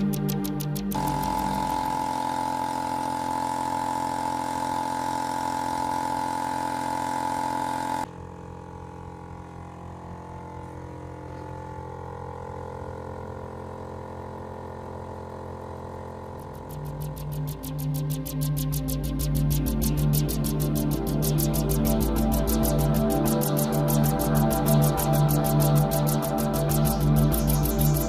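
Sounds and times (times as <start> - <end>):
air compressor running: 0.0 - 28.0.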